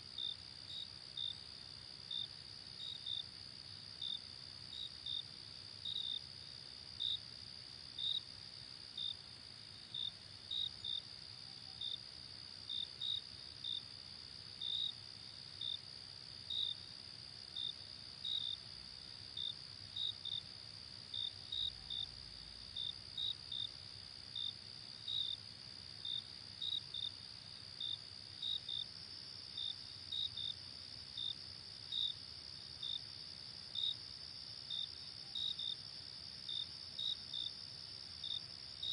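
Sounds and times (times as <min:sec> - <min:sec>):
single cricket chirping: 0:00.1 - 0:38.9.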